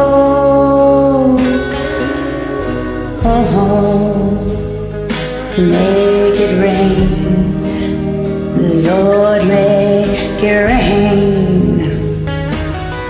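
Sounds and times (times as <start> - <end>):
backing music: 0.0 - 13.0
person singing karaoke: 0.0 - 13.0.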